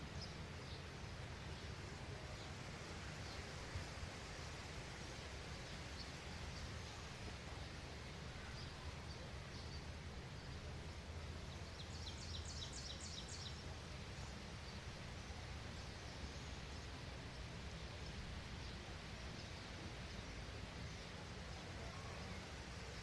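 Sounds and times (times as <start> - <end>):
background hiss and low rumble: 0.0 - 23.0.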